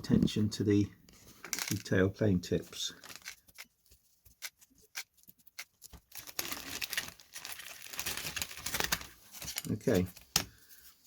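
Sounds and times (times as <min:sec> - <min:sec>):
crinkling and rustling: 0:01.1 - 0:11.0.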